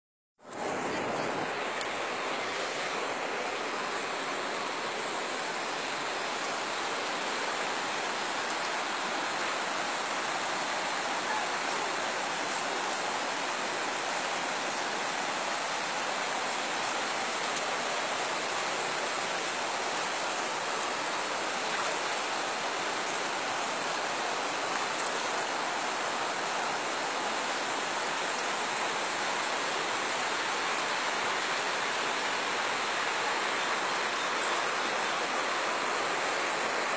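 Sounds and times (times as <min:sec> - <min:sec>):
floodwater rushing over road: 0:00.4 - 0:36.9.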